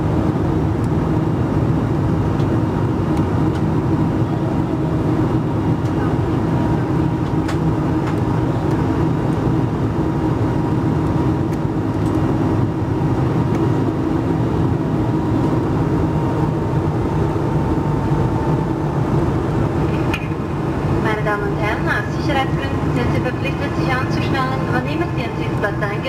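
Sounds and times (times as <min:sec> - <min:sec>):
constant low hum: 0:00.0 - 0:26.0
jet engine drone in cabin: 0:00.0 - 0:26.0.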